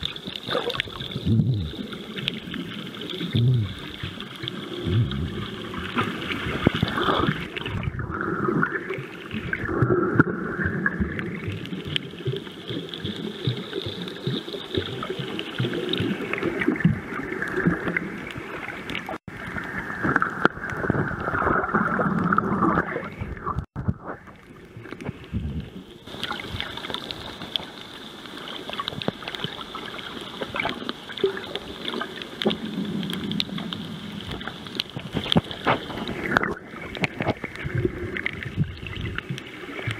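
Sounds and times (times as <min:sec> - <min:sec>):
crackles and ticks: 0:00.0 - 0:39.9
water sloshing and bubbling: 0:00.0 - 0:39.9.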